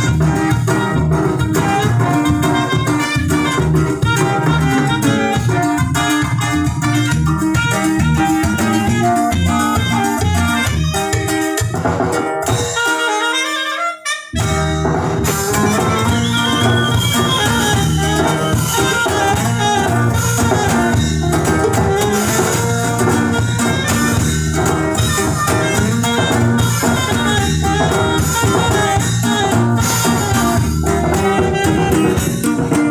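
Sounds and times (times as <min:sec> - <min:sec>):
band playing with saxophone: 0:00.0 - 0:32.9
drum kit beat: 0:00.0 - 0:32.9
guitar: 0:00.0 - 0:32.9.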